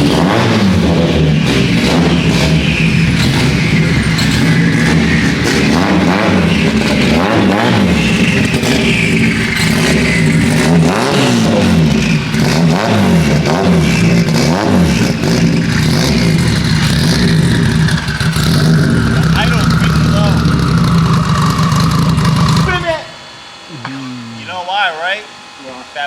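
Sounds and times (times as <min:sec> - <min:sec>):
turbocharged car engine revving: 0:00.0 - 0:26.0.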